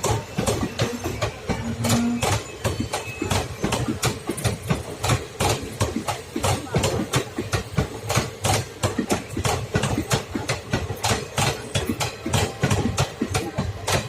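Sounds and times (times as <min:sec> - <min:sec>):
low train rumble: 0:00.0 - 0:14.0
train wheels clattering over rails: 0:00.0 - 0:14.0.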